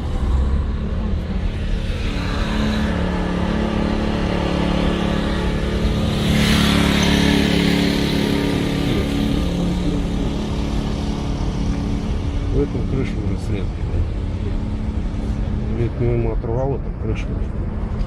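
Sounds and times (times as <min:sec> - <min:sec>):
car engine running: 0:00.0 - 0:18.0
tyre and road noise: 0:00.0 - 0:18.0.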